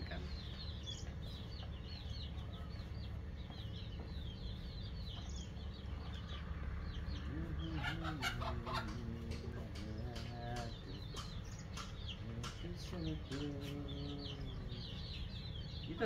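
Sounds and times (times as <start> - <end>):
small birds twittering: 0.0 - 16.0
chicken clucking: 0.9 - 16.0.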